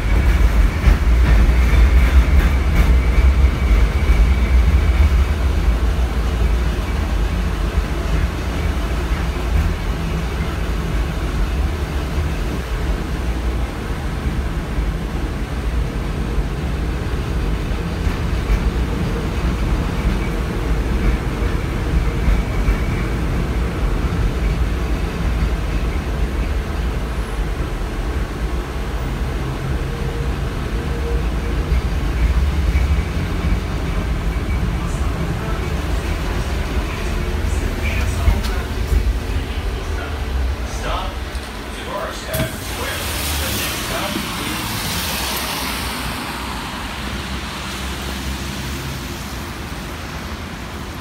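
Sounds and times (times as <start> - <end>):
tram rumbling on rails: 0.0 - 51.0.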